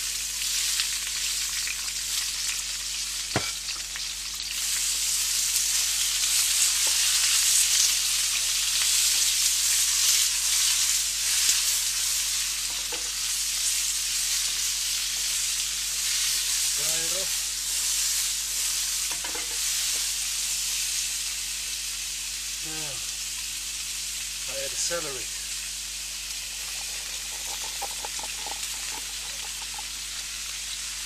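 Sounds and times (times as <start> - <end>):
onion sizzling in oil: 0.0 - 31.0.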